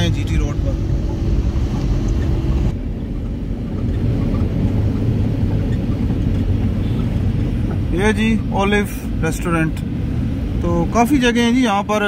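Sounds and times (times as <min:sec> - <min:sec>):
car driving on highway: 0:00.0 - 0:12.0.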